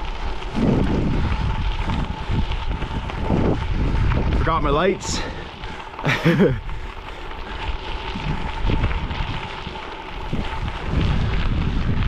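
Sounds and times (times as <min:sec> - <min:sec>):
tyres rolling on gravel: 0:00.0 - 0:12.0
wind buffeting microphone: 0:00.0 - 0:12.0.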